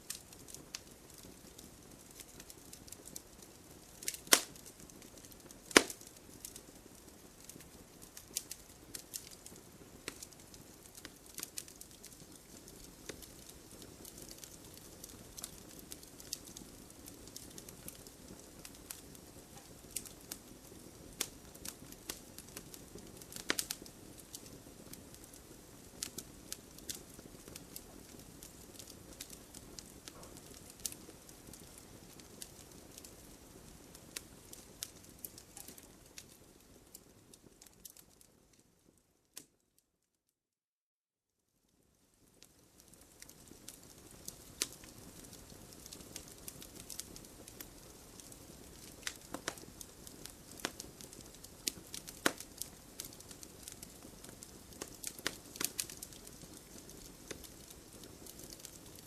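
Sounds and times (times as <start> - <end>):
hiss of flames: 0.0 - 37.6, 42.5 - 59.0
fire pops and snaps: 0.0 - 39.6, 42.4 - 59.0.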